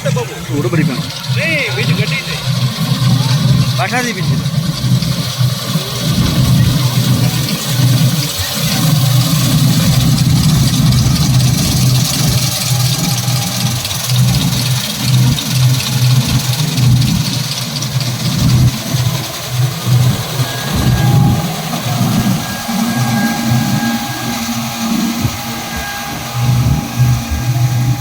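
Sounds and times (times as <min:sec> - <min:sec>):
engine throbbing: 0:00.0 - 0:28.0.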